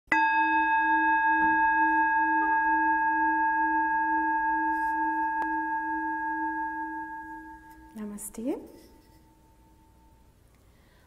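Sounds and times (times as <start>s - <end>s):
singing bowl ringing: 0.1s - 10.5s.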